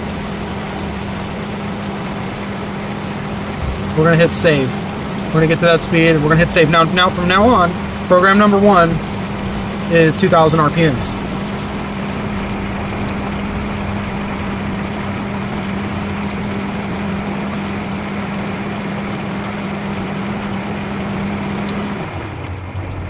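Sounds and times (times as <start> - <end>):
pool pump humming: 0.0 - 23.0.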